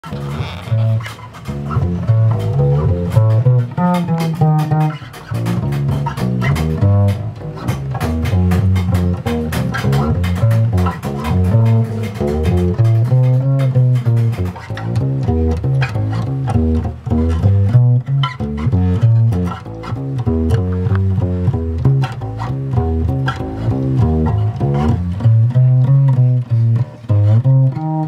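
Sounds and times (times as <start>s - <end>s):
plucked double bass: 0.0s - 28.0s
sharp percussive clicks: 0.0s - 28.0s.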